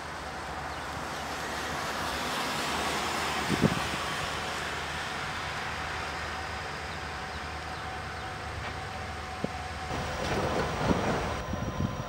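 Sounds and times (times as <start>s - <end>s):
distant locomotive rumble: 0.0s - 12.0s.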